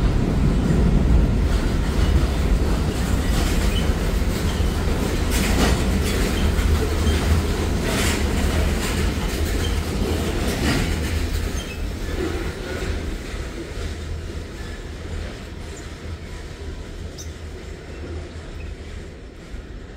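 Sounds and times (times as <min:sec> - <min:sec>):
freight train rumbling on rails: 0:00.0 - 0:19.9
train wheel clanks: 0:00.1 - 0:19.9.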